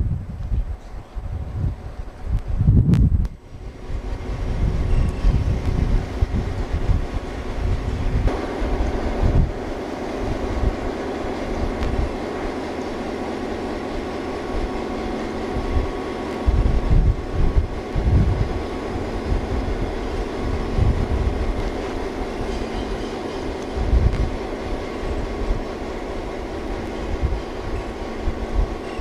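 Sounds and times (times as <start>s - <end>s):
railcar running rumble: 0.0s - 29.0s.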